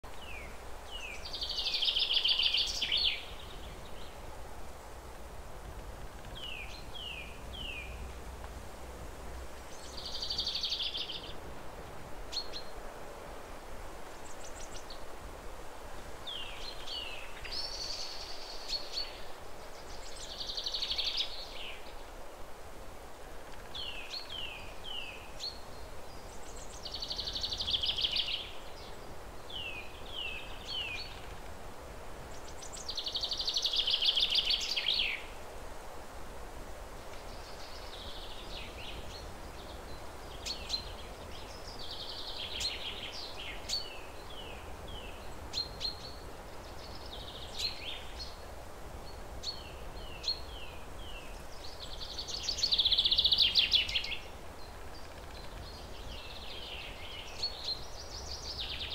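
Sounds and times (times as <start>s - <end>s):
songbirds singing: 0.0s - 22.4s, 23.0s - 35.6s, 36.5s - 58.9s.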